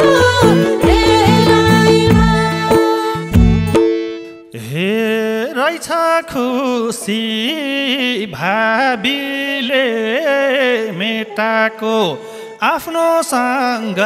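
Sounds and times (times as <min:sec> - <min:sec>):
person singing folk melody: 0:00.0 - 0:14.0.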